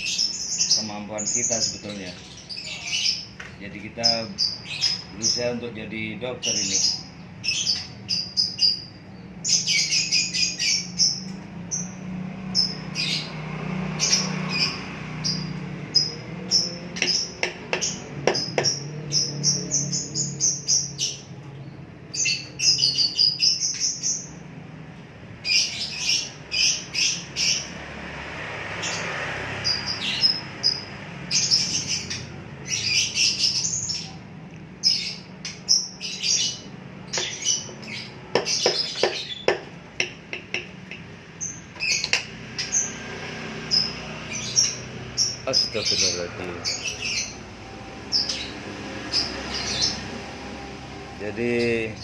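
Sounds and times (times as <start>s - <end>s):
small bird chirping: 0.0s - 24.4s, 28.8s - 52.0s.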